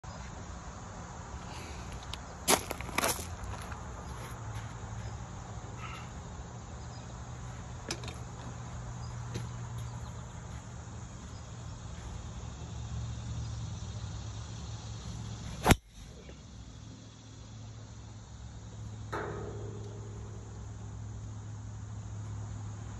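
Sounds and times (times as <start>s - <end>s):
low outdoor hum: 0.0s - 22.9s.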